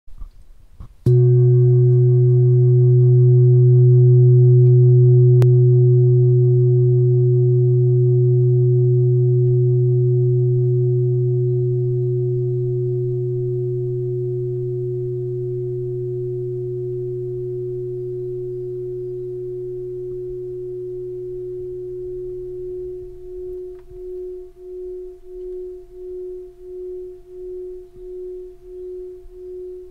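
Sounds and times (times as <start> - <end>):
singing bowl ringing: 1.1 - 29.9.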